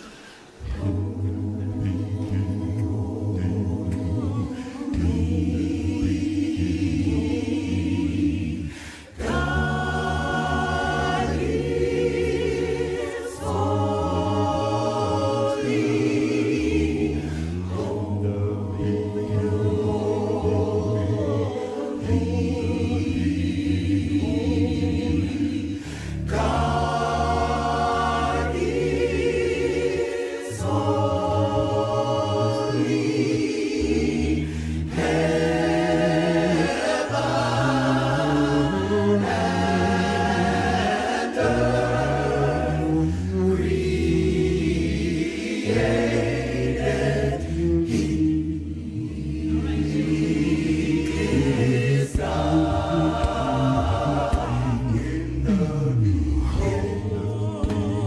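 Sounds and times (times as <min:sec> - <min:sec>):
choir singing gospel chords: 0:00.0 - 0:58.0.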